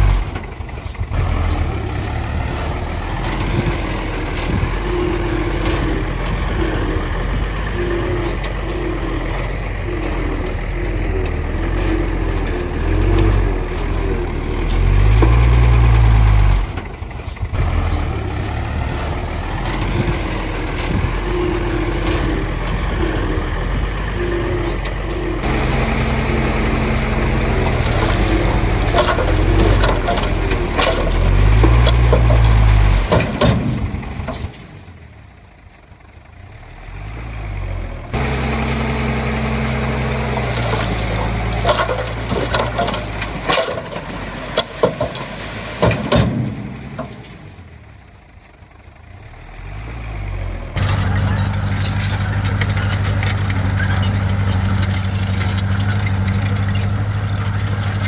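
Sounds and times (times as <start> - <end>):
heavy diesel machinery engine: 0.0 - 58.0
metallic clanks: 2.6 - 35.0, 38.2 - 48.6, 50.8 - 58.0.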